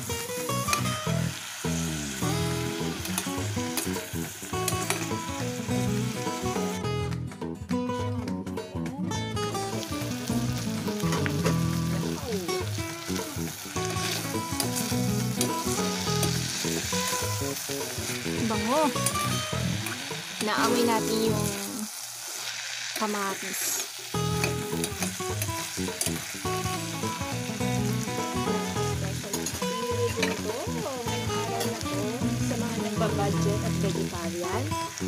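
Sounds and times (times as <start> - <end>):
food sizzling in a pot: 0.0 - 7.0, 9.2 - 35.0
background music with melody: 0.0 - 21.7, 24.2 - 35.0.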